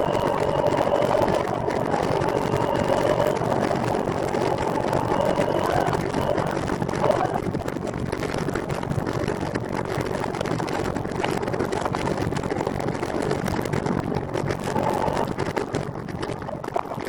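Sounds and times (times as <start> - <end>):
wind rushing on microphone: 0.0 - 17.0.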